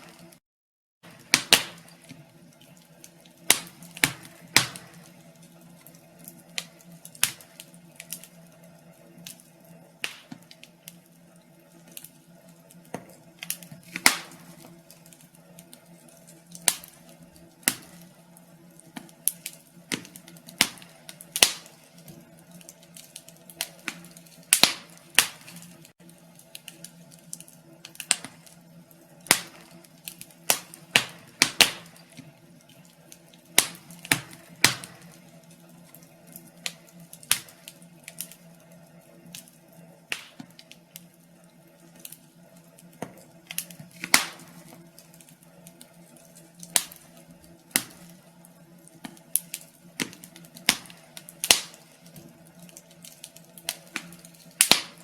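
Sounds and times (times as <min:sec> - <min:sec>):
wood fire crackling: 0:00.0 - 0:00.4, 0:01.0 - 0:55.0.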